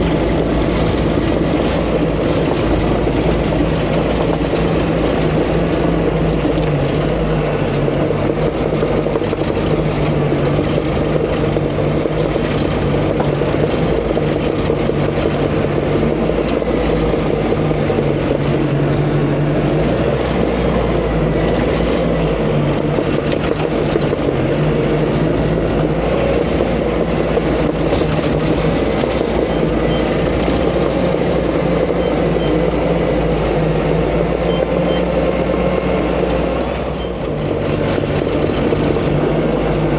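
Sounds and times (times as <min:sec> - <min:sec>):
heavy machine diesel engine drone: 0:00.0 - 0:39.9.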